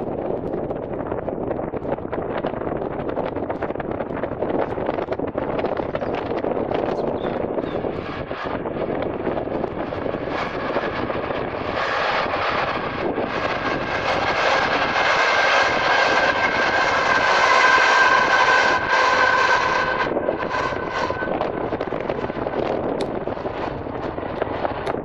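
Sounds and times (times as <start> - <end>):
diesel locomotive whining: 0.0 - 25.0
wind buffeting microphone: 0.0 - 25.0.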